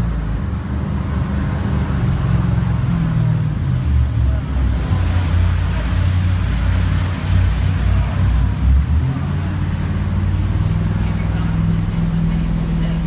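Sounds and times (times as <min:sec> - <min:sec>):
boat engine low rumble: 0:00.0 - 0:13.0
rushing water hiss: 0:00.9 - 0:13.0.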